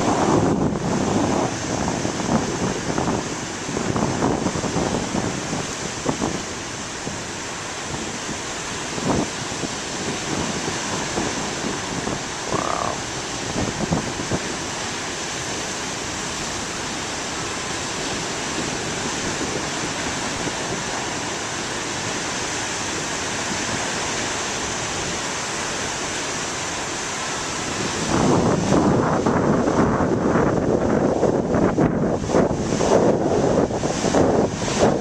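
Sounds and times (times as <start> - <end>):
waves breaking on shore: 0.0 - 35.0
wind buffeting microphone: 0.0 - 35.0.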